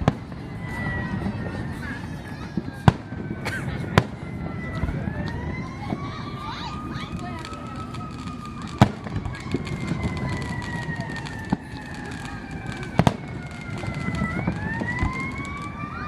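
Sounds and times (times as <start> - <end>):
fireworks bangs and pops: 0.0 - 16.0
siren wailing: 0.0 - 16.0.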